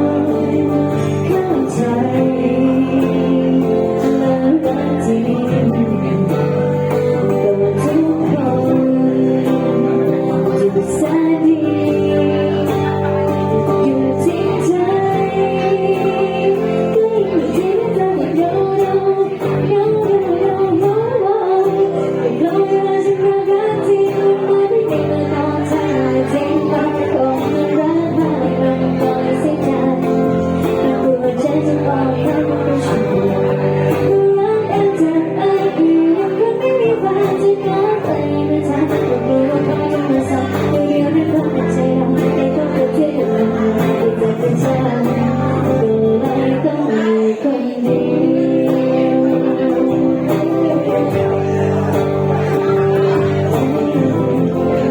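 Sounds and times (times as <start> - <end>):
guitar accompaniment: 0.0 - 54.9
person singing slow melody: 0.0 - 54.9.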